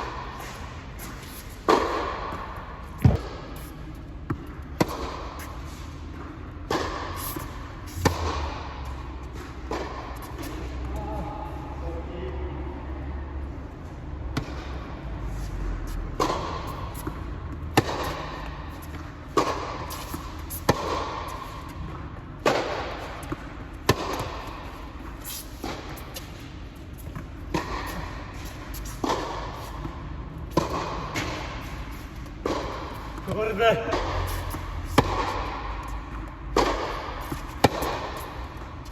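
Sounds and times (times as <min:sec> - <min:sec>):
tennis ball bouncing on court: 0:00.0 - 0:11.0, 0:15.9 - 0:38.9
tennis racquets hitting ball: 0:00.0 - 0:11.0, 0:14.3 - 0:15.1, 0:15.9 - 0:38.9.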